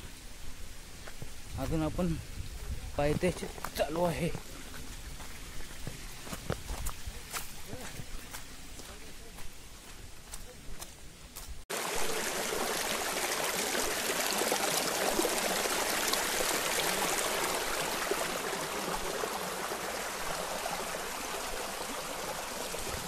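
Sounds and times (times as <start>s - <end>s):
stream rushing over rocks: 0.0s - 8.7s, 11.7s - 23.0s.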